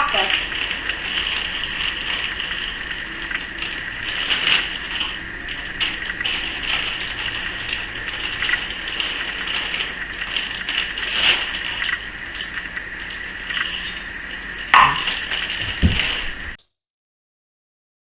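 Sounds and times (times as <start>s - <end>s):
crispy noodles crackling in chocolate: 0.0s - 16.6s.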